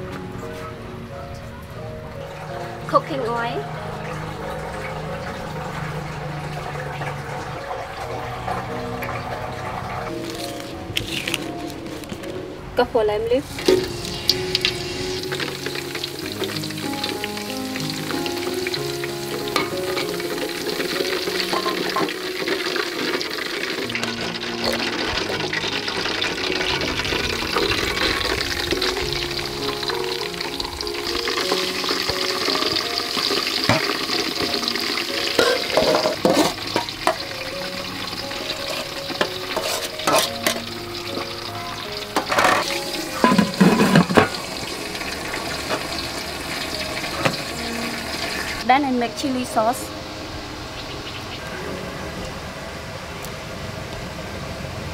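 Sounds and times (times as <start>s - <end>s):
leaves sizzling in hot oil: 2.3s - 12.4s, 13.0s - 51.9s.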